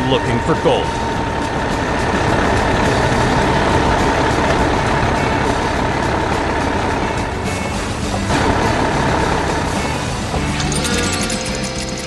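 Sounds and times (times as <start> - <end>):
excavator engine rumbling: 0.0 - 12.0
thin steady whine: 0.0 - 12.0.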